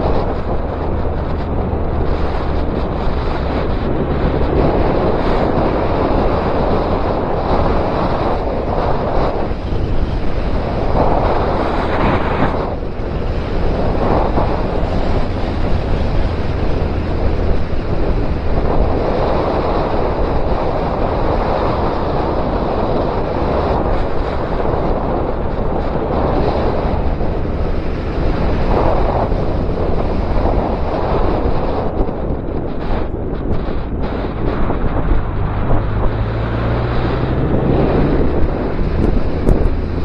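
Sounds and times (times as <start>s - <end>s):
motorcycle engine hum: 0.0s - 40.0s
wind buffeting microphone: 0.0s - 40.0s.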